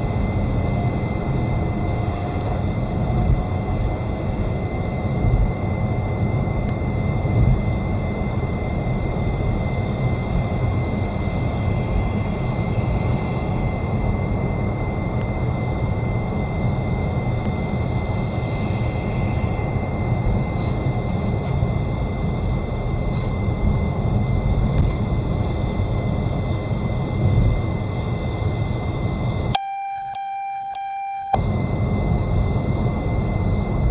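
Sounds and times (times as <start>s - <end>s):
car driving low rumble: 0.0s - 29.5s, 31.4s - 33.9s.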